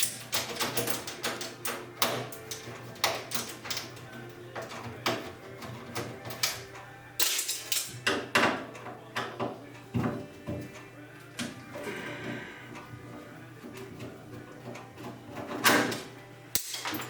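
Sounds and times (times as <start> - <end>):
metal clanks and rattles: 0.0 - 17.0.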